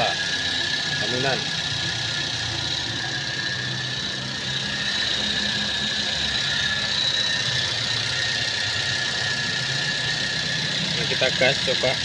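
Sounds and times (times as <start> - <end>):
car engine idling: 0.0 - 12.0
high whine: 0.0 - 12.0.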